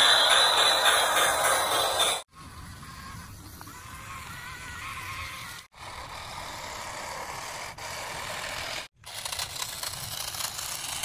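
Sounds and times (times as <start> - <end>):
toy truck electric motors running: 0.0 - 11.0.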